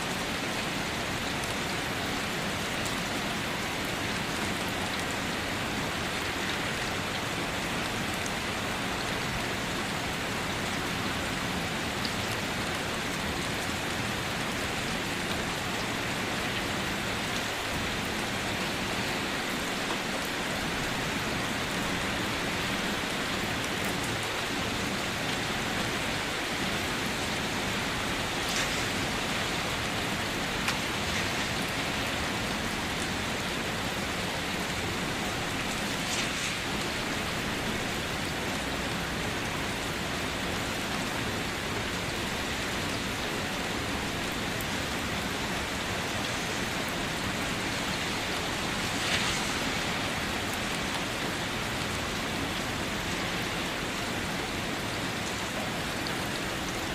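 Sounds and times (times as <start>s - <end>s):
rain pattering on surfaces: 0.0s - 56.9s.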